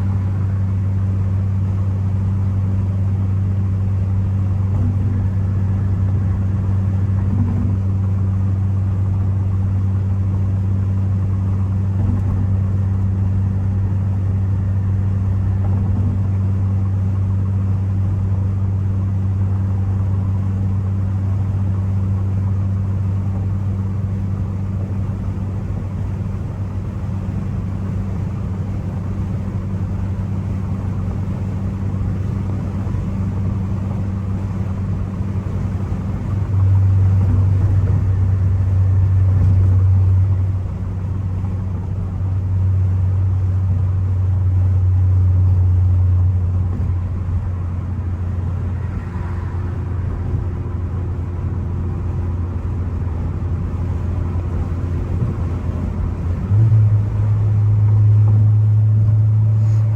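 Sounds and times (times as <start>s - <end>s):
car engine drone: 0.0s - 59.9s
road noise: 0.0s - 59.9s.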